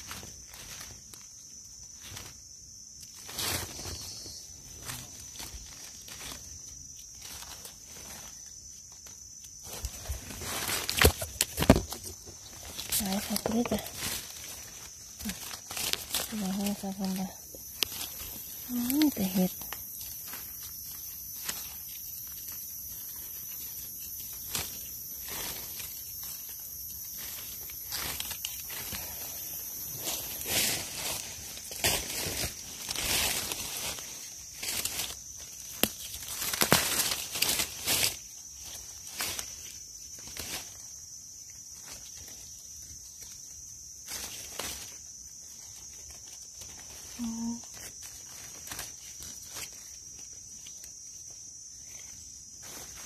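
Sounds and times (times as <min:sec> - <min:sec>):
dry leaves rustling and crackling: 0:00.0 - 0:53.0
high insect drone: 0:00.0 - 0:53.0.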